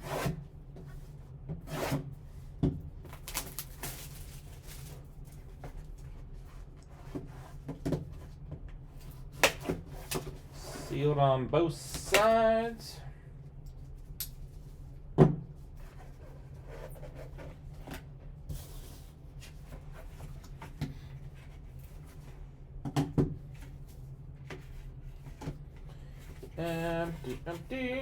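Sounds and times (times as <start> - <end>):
low steady hum: 0.5 - 28.0.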